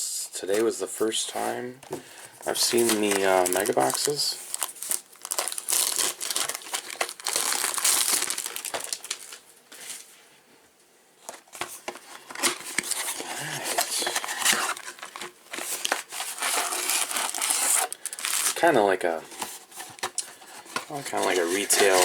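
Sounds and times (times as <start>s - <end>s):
plastic wrapping crinkling: 2.4s - 10.1s, 11.8s - 22.0s.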